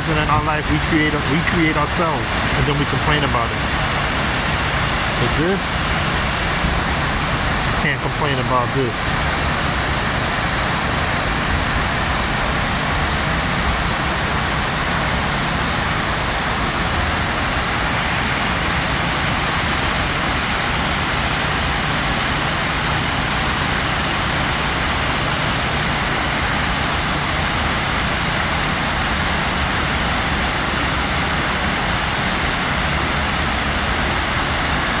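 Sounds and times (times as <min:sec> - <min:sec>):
rushing water: 0:00.0 - 0:35.0.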